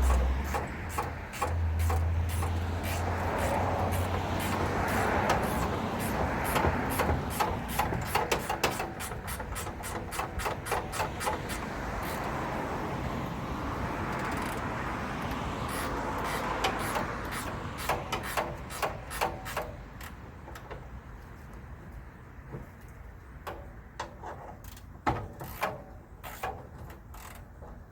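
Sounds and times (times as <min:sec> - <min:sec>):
tools clicking and clanking: 0:00.0 - 0:12.4, 0:14.0 - 0:21.7, 0:22.6 - 0:27.9.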